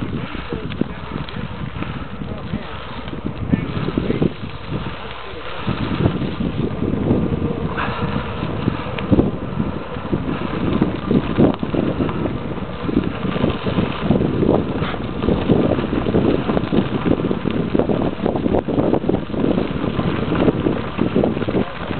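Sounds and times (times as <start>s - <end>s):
bicycle tyres rolling on gravel: 0.0s - 21.9s
wind buffeting microphone: 0.0s - 21.9s.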